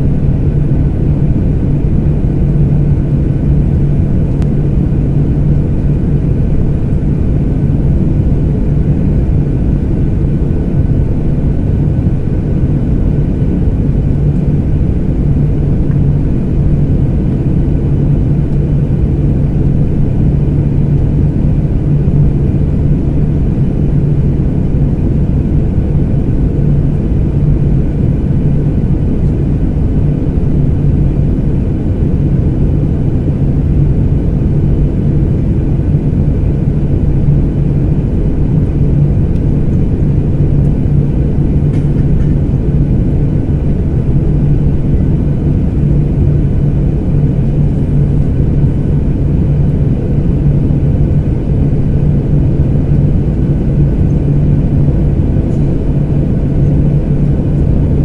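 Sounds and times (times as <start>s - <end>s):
airplane engine drone: 0.0s - 58.0s.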